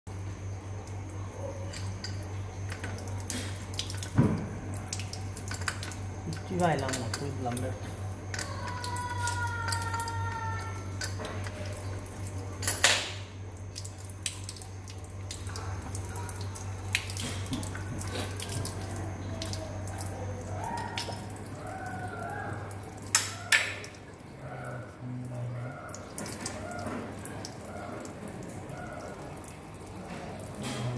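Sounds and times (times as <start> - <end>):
steady low hum: 0.1 - 30.9
water trickling and dripping: 0.1 - 30.9.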